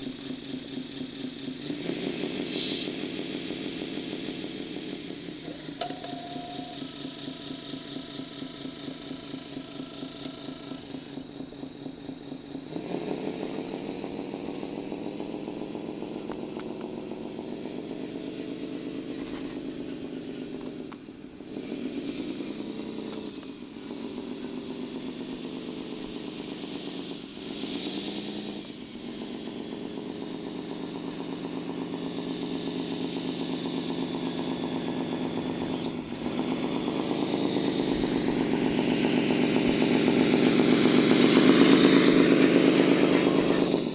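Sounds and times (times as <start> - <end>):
dump truck diesel engine: 0.0 - 43.9.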